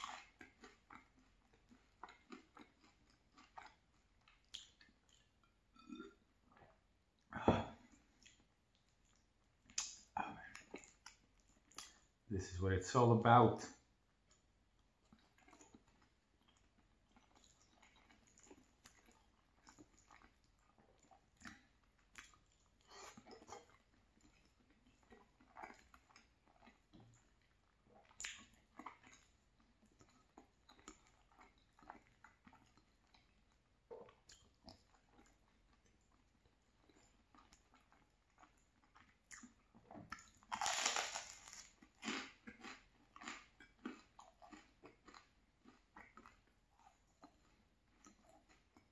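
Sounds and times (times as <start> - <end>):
wet chewing and lip smacks: 0.0 - 12.3, 14.0 - 48.9.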